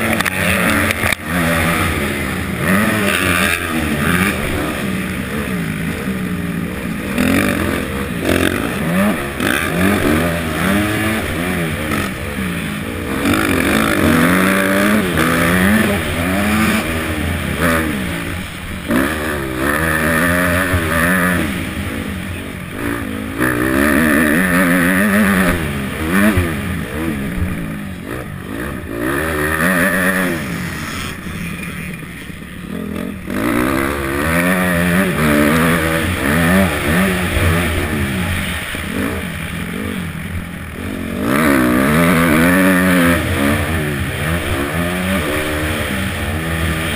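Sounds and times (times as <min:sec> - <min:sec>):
motocross bike engine racing: 0:00.0 - 0:46.9.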